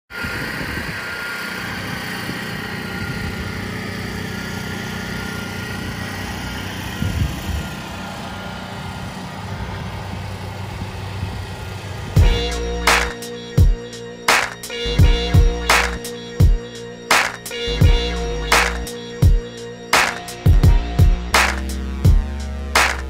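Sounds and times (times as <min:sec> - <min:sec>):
engine droning: 0:00.1 - 0:23.0.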